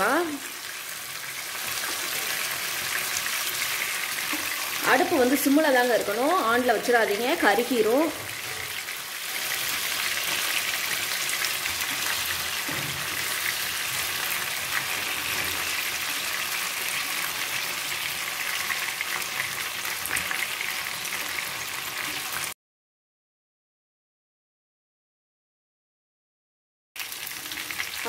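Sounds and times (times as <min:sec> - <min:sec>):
fish sizzling in hot oil: 0:00.0 - 0:22.6, 0:27.0 - 0:28.0.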